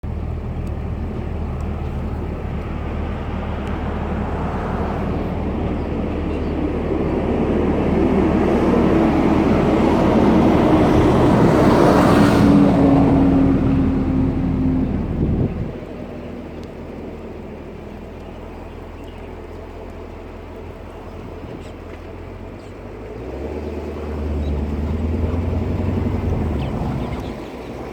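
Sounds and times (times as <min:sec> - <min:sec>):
car engine and road noise: 0:00.0 - 0:27.9.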